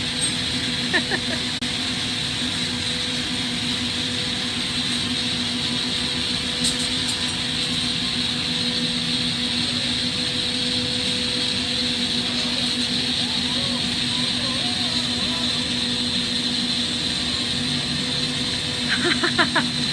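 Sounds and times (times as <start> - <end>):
glassworking torch roaring: 0.0 - 19.9.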